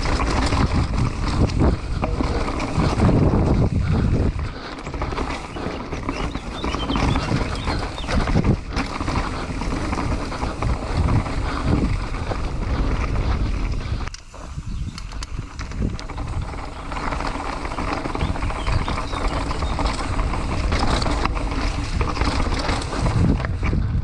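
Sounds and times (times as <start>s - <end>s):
bike knocking and rattling: 0.0s - 24.0s
tyres on dirt and rock: 0.0s - 24.0s
wind on microphone: 0.0s - 24.0s.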